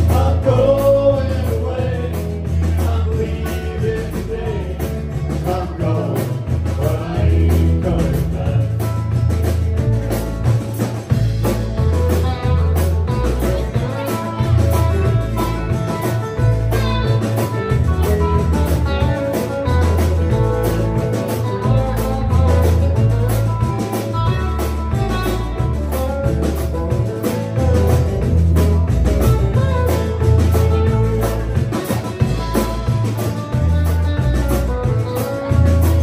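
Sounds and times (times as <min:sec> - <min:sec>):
bass line: 0:00.0 - 0:36.0
drum kit: 0:00.0 - 0:36.0
electric and acoustic guitars: 0:00.0 - 0:36.0.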